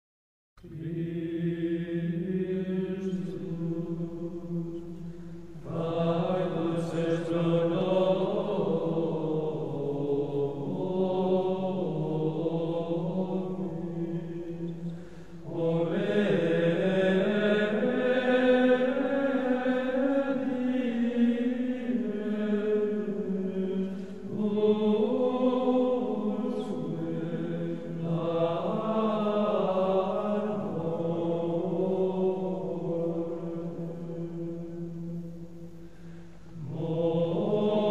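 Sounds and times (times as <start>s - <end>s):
slow vocal chanting: 0.6s - 37.9s.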